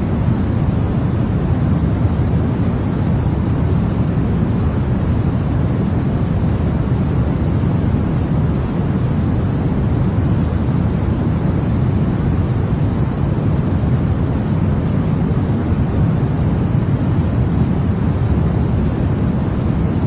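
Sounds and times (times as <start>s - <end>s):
white noise: 0.0s - 20.0s.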